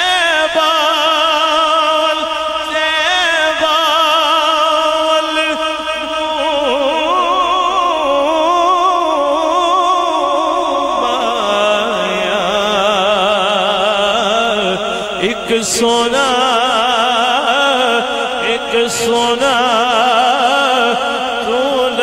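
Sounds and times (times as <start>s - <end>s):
man singing solo: 0.0s - 22.0s.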